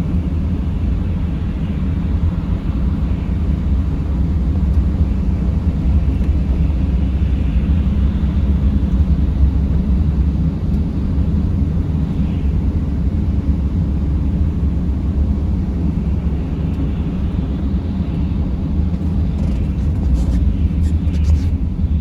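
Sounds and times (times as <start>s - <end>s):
van driving rumble: 0.0s - 22.0s.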